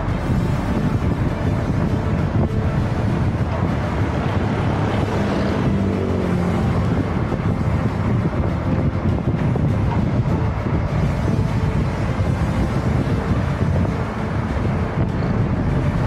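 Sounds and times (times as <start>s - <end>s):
road rumble: 0.0s - 16.0s
wind buffeting microphone: 0.0s - 16.0s.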